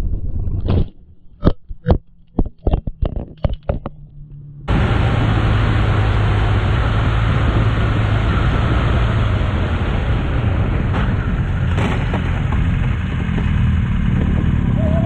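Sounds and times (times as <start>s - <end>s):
low engine drone: 0.0s - 15.0s
tyre and road noise: 0.0s - 15.0s.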